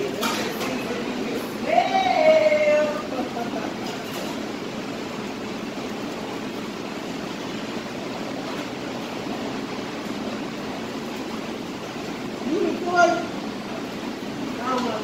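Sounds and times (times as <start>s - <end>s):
ventilation fan running: 0.0s - 15.0s.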